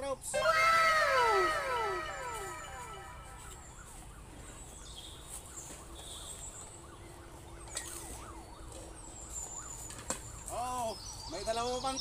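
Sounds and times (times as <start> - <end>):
birds chirping: 0.0 - 12.0
outdoor ambience: 0.0 - 12.0.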